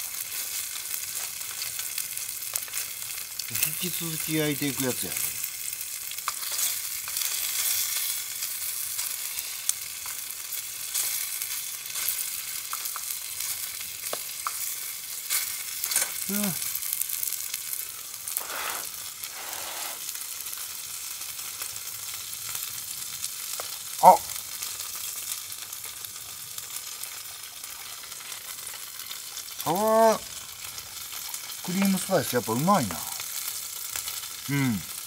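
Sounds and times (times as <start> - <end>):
chicken sizzling with pops: 0.0 - 35.0.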